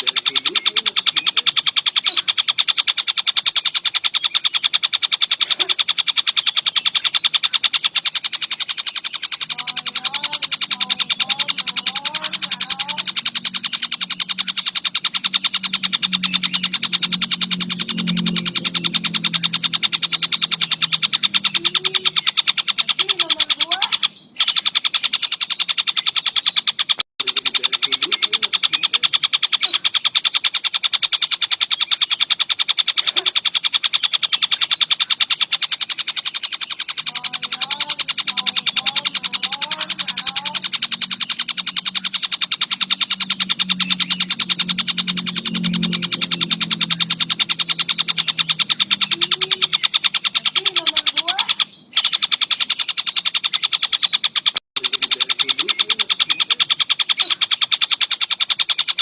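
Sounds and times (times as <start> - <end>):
kingfisher chattering trill: 0.0 - 59.0
soft gliding chirps: 0.0 - 59.0.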